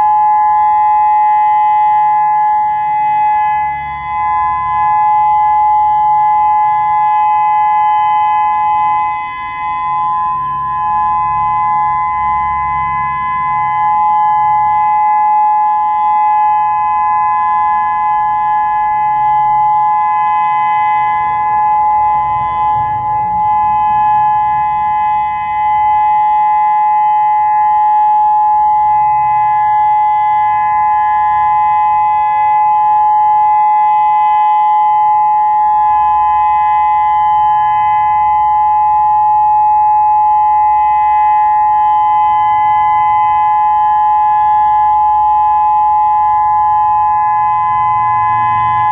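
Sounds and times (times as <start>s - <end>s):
distant siren winding down: 0.0s - 48.9s
dual-tone electronic siren: 0.0s - 48.9s.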